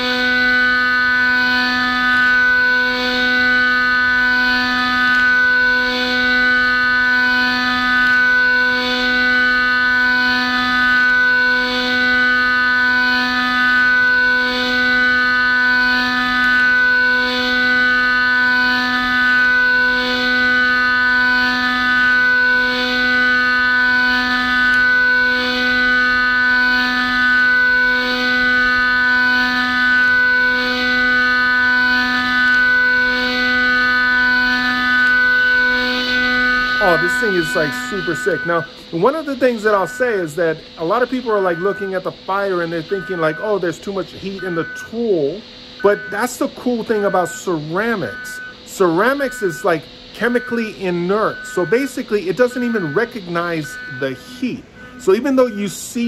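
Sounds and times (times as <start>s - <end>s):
milling spindle high-pitched whine: 0.0s - 56.0s.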